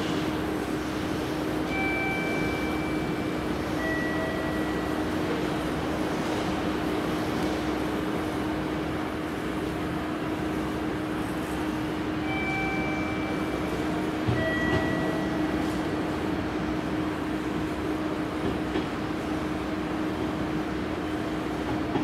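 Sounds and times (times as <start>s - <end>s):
electric trains running: 0.0s - 22.0s.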